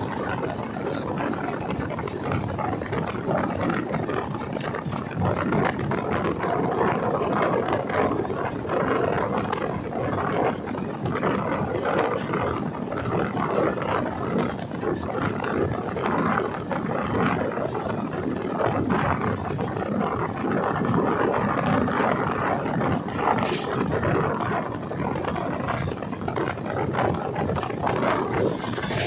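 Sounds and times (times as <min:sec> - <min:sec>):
rushing air: 0:00.0 - 0:29.0
train wheels rumbling on rails: 0:00.0 - 0:29.0.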